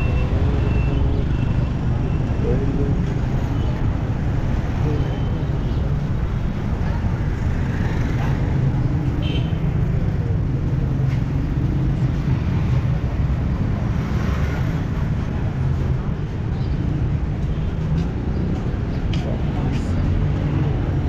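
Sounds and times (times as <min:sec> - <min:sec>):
road din: 0:00.0 - 0:21.0.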